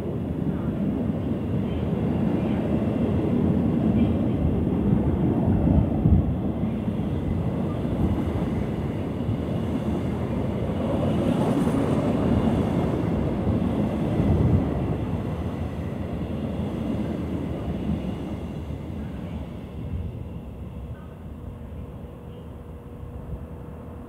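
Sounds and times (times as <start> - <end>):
freight train rolling on rails: 0.0 - 24.0.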